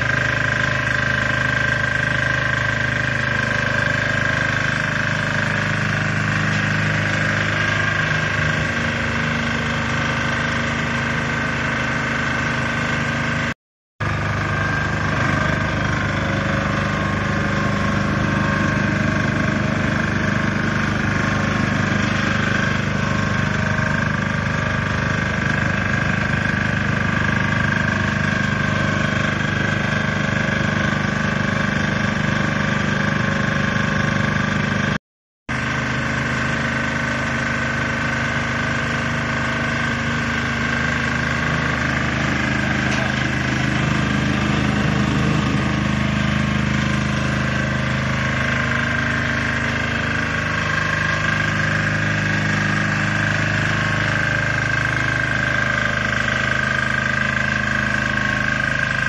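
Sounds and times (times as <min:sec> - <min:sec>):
burner whine: 0:00.0 - 0:31.0, 0:35.5 - 0:59.0
engine running: 0:00.0 - 0:59.0.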